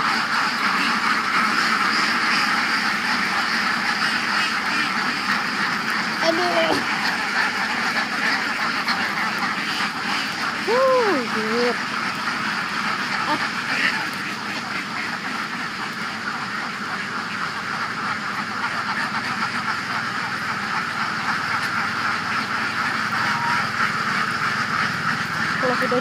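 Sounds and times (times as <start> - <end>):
flock of ducks quacking: 0.0 - 26.0.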